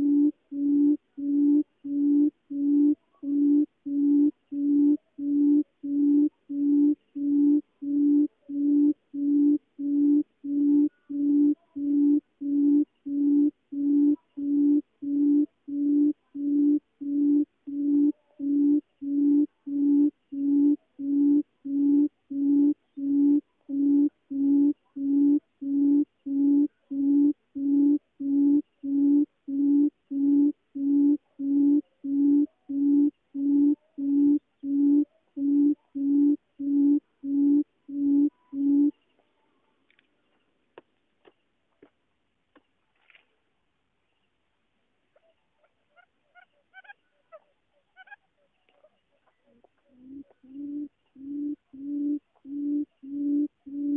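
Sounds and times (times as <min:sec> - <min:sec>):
bird deep hooting call: 0:00.0 - 0:39.0, 0:49.2 - 0:53.9.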